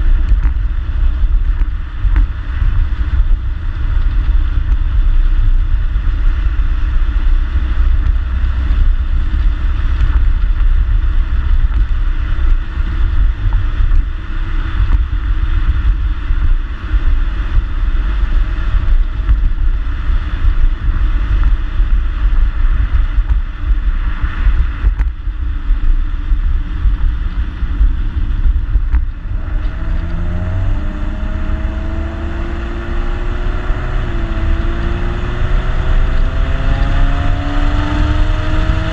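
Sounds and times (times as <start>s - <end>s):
car exhaust rumble: 0.0s - 38.9s
road noise: 0.0s - 38.9s
wind noise: 0.0s - 38.9s.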